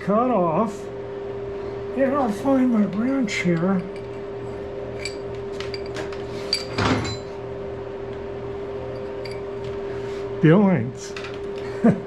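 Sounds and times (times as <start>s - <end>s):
steady shop hum: 0.0s - 12.0s.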